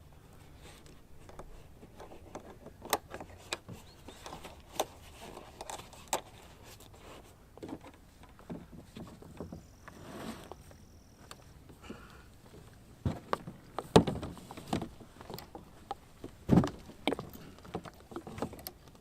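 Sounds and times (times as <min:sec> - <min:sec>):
clicks and knocks of handling: 0:00.7 - 0:10.0, 0:10.6 - 0:19.0.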